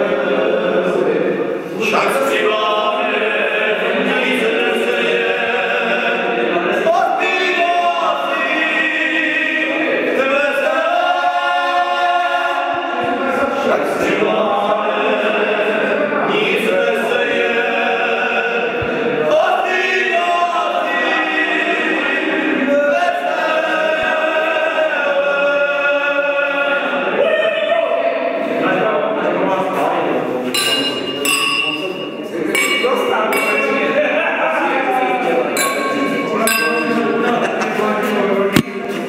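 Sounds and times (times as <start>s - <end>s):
men singing unaccompanied folk song: 0.0s - 39.0s.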